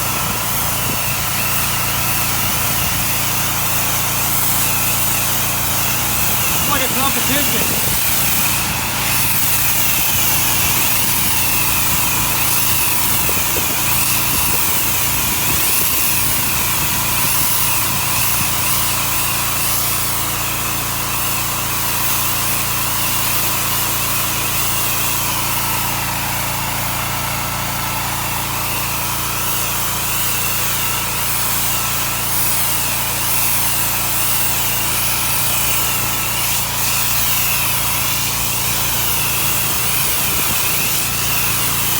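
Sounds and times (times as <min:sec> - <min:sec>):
high-pressure water spray hissing: 0:00.0 - 0:41.9
pressure washer engine humming: 0:00.0 - 0:41.9.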